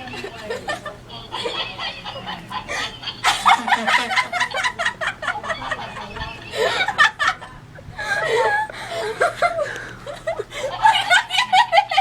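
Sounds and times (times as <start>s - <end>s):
girl laughing: 0.2s - 12.0s.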